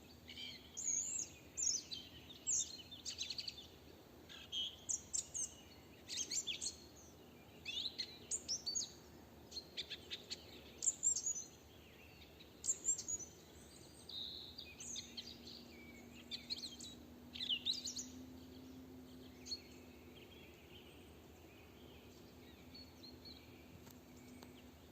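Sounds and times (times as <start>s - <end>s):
faint steady low hum: 0.0s - 24.9s
songbirds singing: 0.0s - 24.9s.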